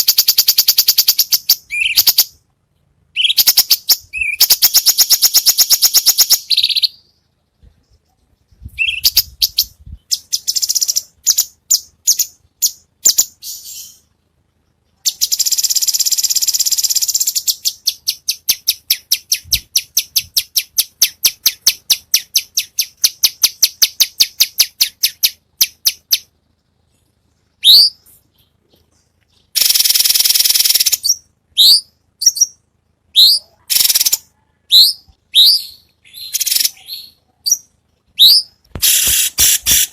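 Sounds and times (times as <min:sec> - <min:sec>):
songbird trilling and whistling: 0:00.0 - 0:02.4, 0:03.1 - 0:07.2, 0:08.6 - 0:14.1, 0:15.0 - 0:26.3, 0:27.6 - 0:28.5, 0:29.3 - 0:39.9.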